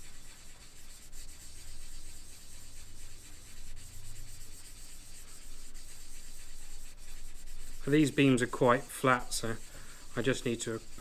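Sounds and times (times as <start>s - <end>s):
wet sandpaper scratching on metal: 0.0s - 11.0s.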